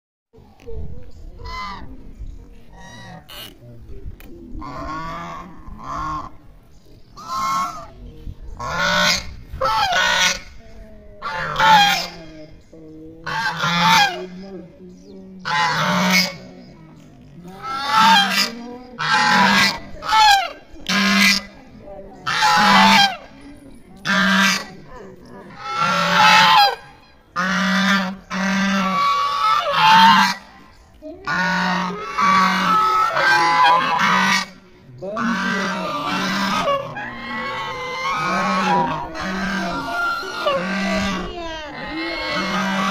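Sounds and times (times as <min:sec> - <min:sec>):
geese honking: 0:01.4 - 0:02.0, 0:02.7 - 0:03.6, 0:04.6 - 0:06.5, 0:07.1 - 0:08.0, 0:08.6 - 0:10.6, 0:11.2 - 0:12.3, 0:13.2 - 0:14.7, 0:15.4 - 0:16.6, 0:17.5 - 0:42.9.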